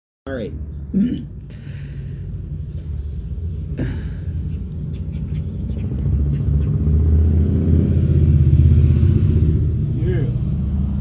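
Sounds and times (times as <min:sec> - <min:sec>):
motorcycle engine rumble: 0:00.3 - 0:11.0.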